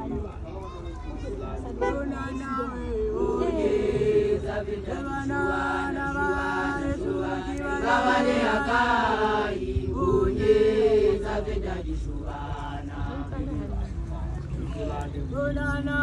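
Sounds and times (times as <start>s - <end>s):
women chanting together: 3.1s - 16.0s.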